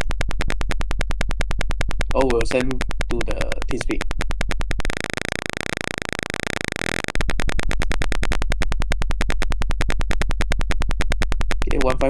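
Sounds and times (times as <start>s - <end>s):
electronic alarm buzzer: 0.0s - 11.9s.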